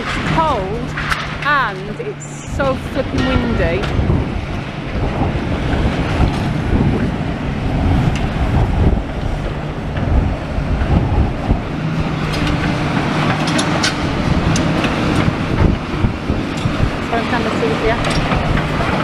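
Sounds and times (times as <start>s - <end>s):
excavator engine running: 0.0s - 19.0s
steady low hum: 0.0s - 19.0s
wind buffeting the microphone: 0.0s - 19.0s.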